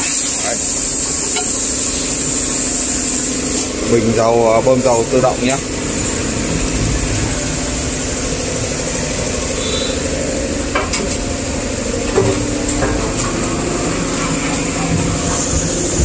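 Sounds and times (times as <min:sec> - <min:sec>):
machine motor hum with hiss: 0:00.0 - 0:16.0.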